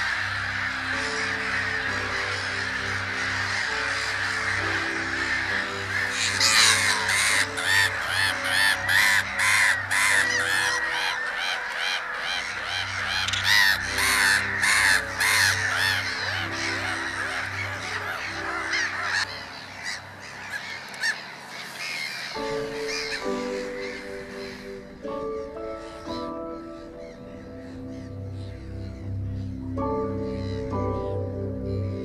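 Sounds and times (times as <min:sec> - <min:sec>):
gulls calling: 0:00.0 - 0:32.0
soft background music: 0:00.0 - 0:32.0.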